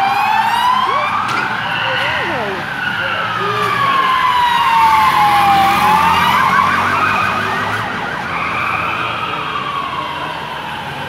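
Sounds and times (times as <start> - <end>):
police siren wailing and yelping: 0.0 - 11.0.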